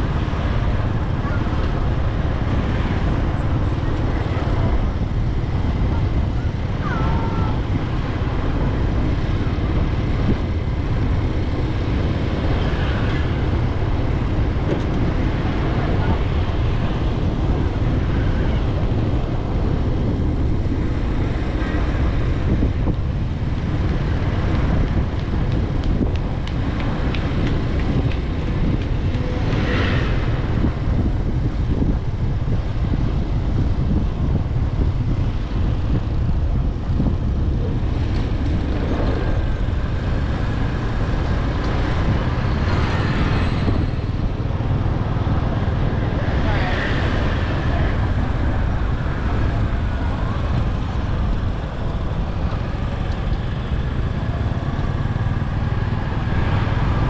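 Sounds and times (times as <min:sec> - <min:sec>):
road noise: 0:00.0 - 0:57.0
traffic passing: 0:00.0 - 0:57.0
wind on microphone: 0:00.0 - 0:57.0.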